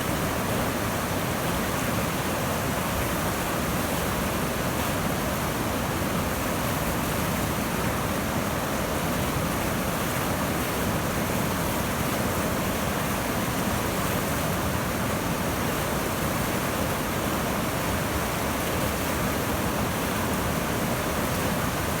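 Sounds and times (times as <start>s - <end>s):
river roaring white water: 0.0s - 22.0s.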